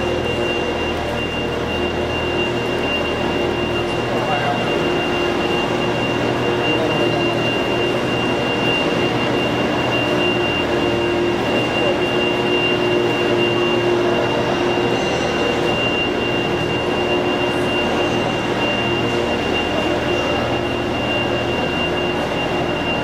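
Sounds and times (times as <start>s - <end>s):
heavy machinery drone: 0.0s - 23.0s
thin high whine: 0.0s - 23.0s.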